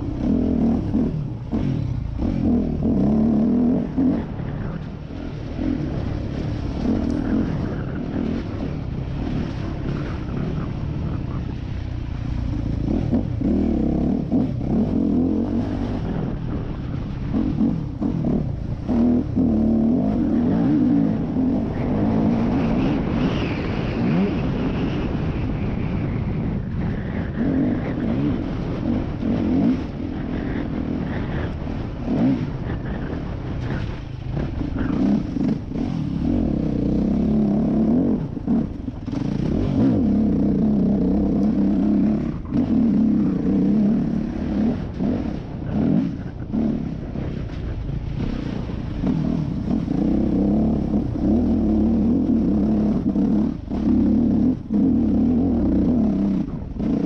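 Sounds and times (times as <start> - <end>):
dirt bike engine revving: 0.0 - 25.2, 27.3 - 57.0.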